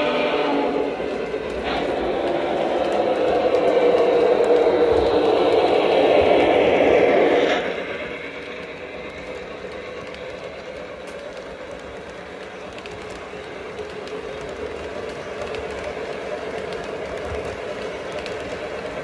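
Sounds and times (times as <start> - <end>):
model train wheels rumbling on rail: 0.0 - 19.0
faint clicks: 0.3 - 19.0.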